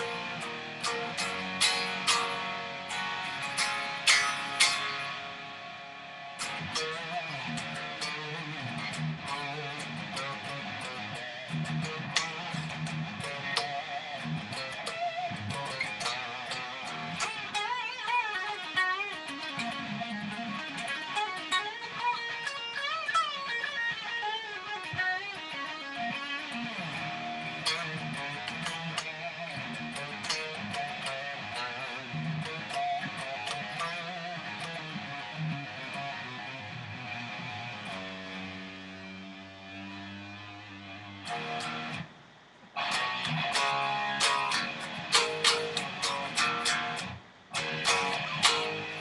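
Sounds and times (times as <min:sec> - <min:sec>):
electric guitar single-note picking: 0:00.0 - 0:42.1, 0:42.8 - 0:49.0
electric guitar strummed chords: 0:00.0 - 0:49.0.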